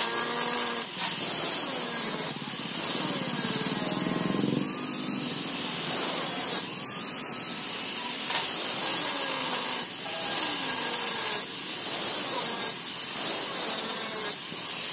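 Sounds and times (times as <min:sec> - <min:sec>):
angle grinder cutting metal: 0:00.0 - 0:14.9.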